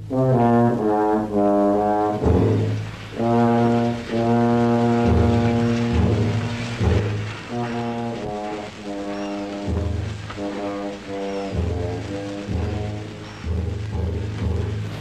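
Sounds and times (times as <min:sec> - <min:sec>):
deep low notes: 0:00.0 - 0:15.0
held brass chords: 0:00.0 - 0:15.0.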